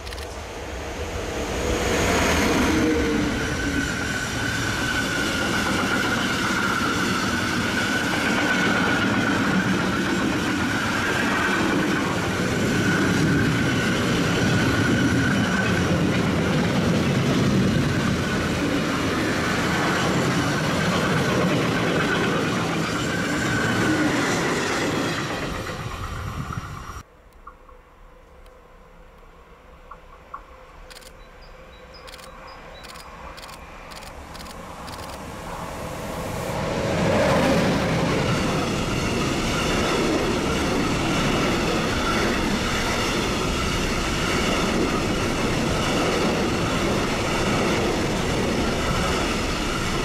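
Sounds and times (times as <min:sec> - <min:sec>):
train wheels squealing on rails: 0:00.0 - 0:27.0, 0:30.5 - 0:50.0.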